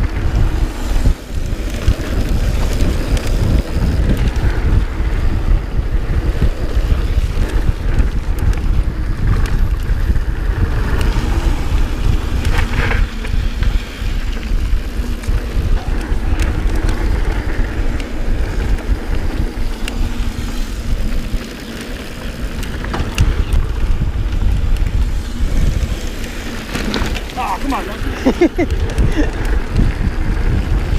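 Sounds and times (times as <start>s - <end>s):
bike clicks and rattles: 0.0s - 30.9s
tyres rolling on dirt trail: 0.0s - 30.9s
wind buffeting microphone: 0.0s - 30.9s.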